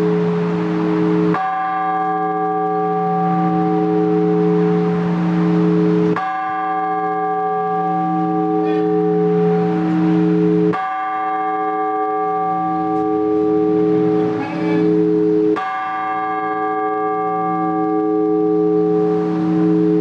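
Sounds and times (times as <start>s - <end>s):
church bell tolling: 0.0s - 20.0s.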